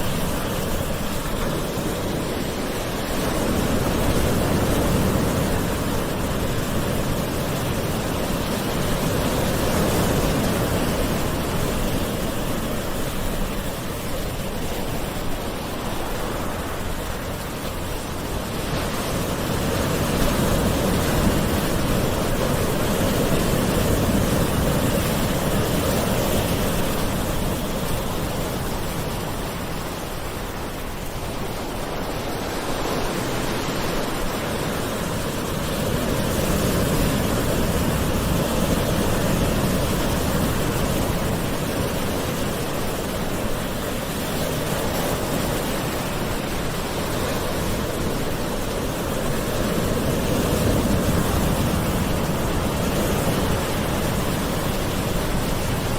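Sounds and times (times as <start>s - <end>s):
gentle ocean surf: 0.0s - 55.9s.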